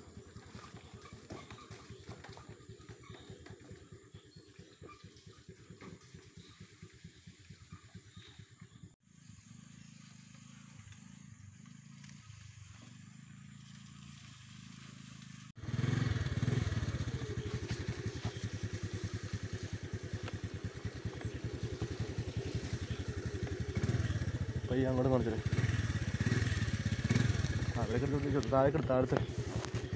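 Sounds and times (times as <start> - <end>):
scooter engine running: 0.0 - 29.9.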